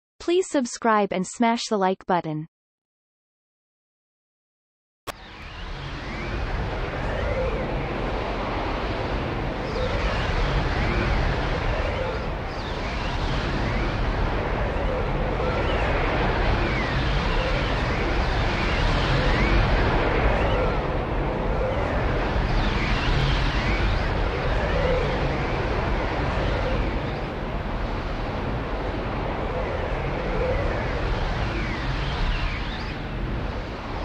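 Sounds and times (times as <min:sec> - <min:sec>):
swirling vortex rushing noise: 0:05.5 - 0:34.0.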